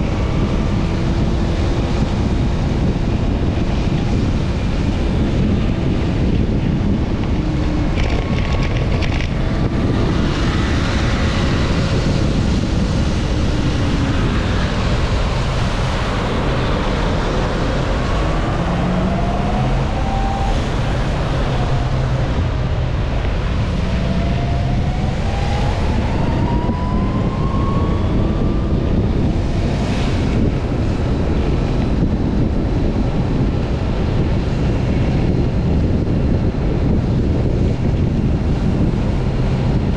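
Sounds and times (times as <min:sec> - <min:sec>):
passing vehicle engines: 0:00.0 - 0:39.9
road and traffic noise: 0:00.0 - 0:39.9
wind rushing over microphone: 0:00.0 - 0:39.9.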